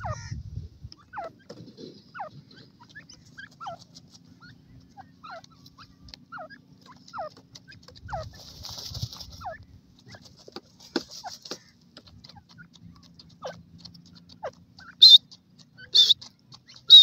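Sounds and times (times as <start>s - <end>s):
birds scuffling in dust: 0.0s - 17.0s
chicks peeping: 0.0s - 17.0s.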